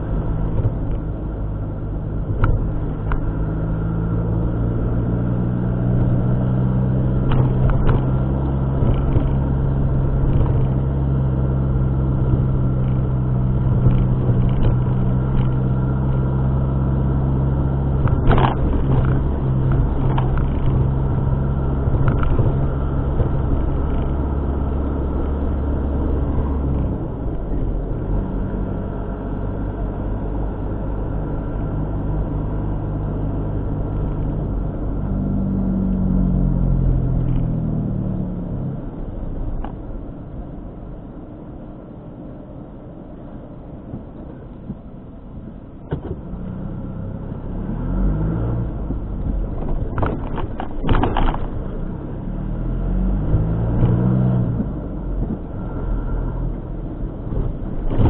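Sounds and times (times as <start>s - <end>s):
car engine running: 0.0s - 58.0s
road noise: 0.0s - 58.0s.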